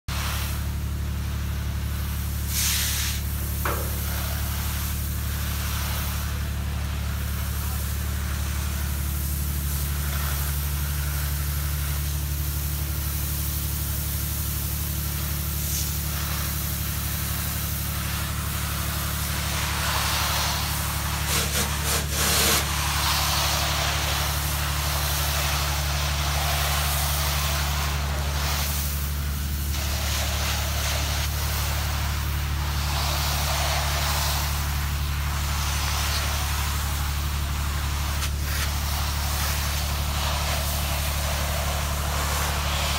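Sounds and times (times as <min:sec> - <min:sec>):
spray hissing: 0:01.9 - 0:42.9
pump motor humming: 0:03.2 - 0:42.9.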